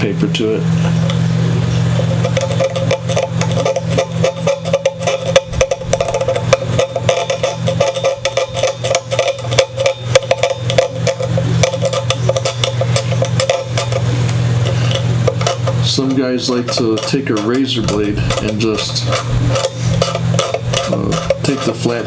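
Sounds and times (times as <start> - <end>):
tool scraping wood: 0.8 - 22.0.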